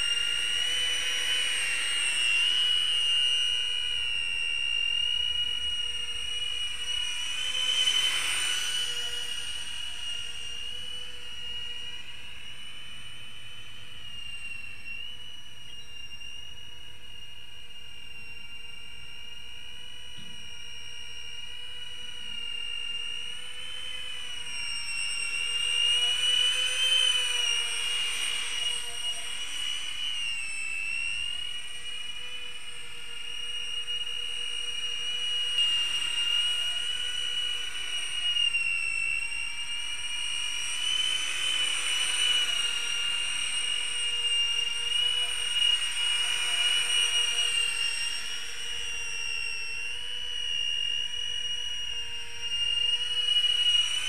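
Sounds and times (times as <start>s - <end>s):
drone fans whining: 0.0s - 54.0s.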